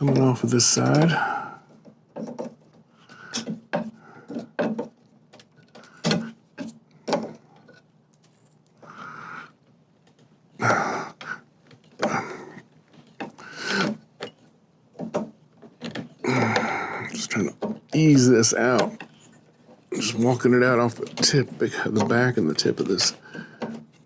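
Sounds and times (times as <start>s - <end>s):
wooden joint creaking and rubbing: 0.0s - 7.9s, 8.8s - 24.0s.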